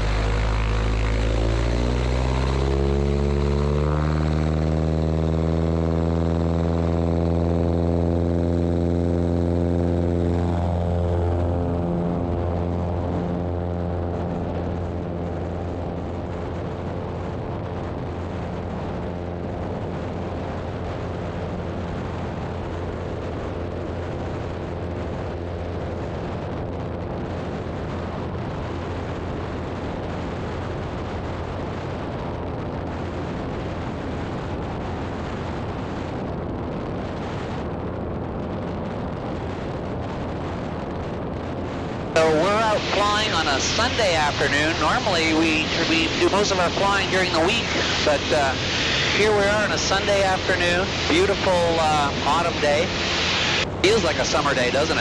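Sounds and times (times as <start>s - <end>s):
airplane engine and propeller drone: 0.0s - 55.0s.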